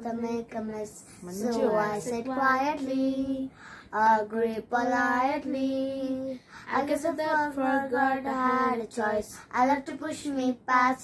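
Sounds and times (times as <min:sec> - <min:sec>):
girl singing: 0:00.0 - 0:11.0.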